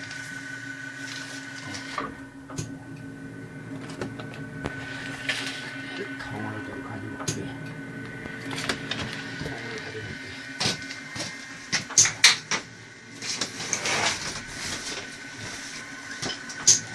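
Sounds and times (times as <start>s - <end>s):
machine hum: 0.0s - 16.9s.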